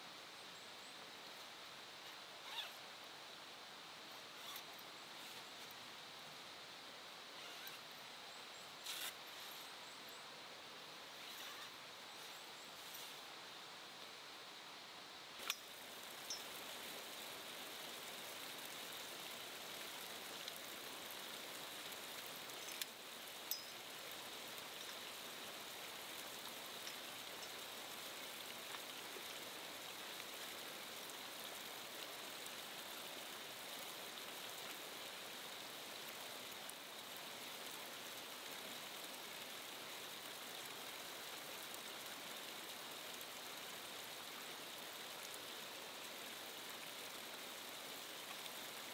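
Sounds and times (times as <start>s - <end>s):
running water hiss: 0.0s - 48.9s.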